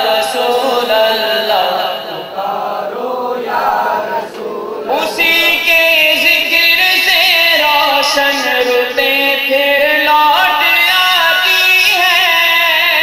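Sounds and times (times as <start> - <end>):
man singing devotional verse: 0.0 - 13.0.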